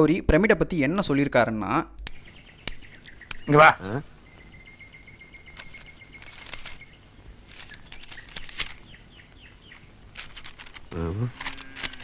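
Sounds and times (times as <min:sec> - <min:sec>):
small birds chirping: 0:00.8 - 0:12.0.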